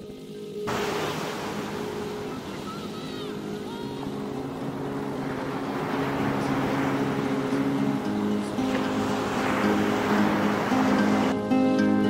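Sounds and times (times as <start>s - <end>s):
ocean surf washing: 0.0s - 11.6s
soft background music: 0.0s - 12.0s.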